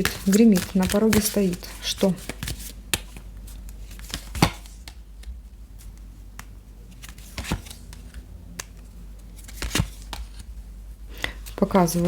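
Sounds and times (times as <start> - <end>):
cards shuffling and snapping: 0.0 - 10.5.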